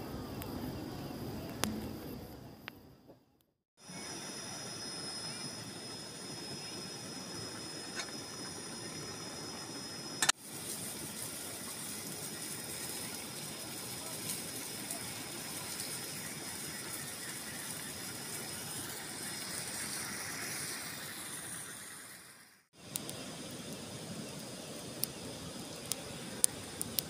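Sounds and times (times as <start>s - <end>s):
gas stove hissing: 3.8s - 27.0s
water boiling: 3.8s - 27.0s.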